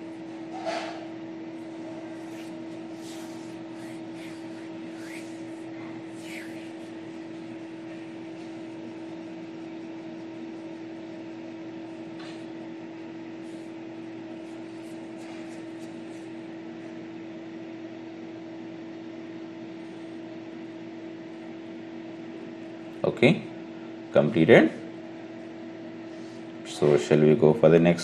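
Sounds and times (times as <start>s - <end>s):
machine hum: 0.0s - 26.8s.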